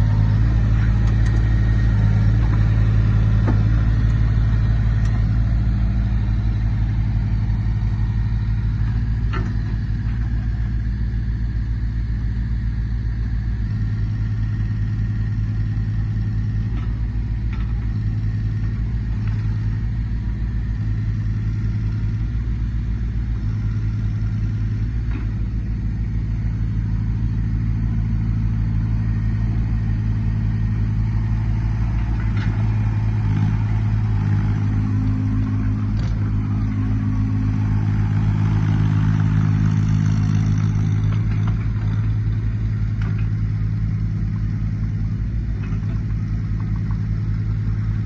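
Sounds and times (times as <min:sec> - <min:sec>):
small diesel engine running: 0:00.0 - 0:48.0.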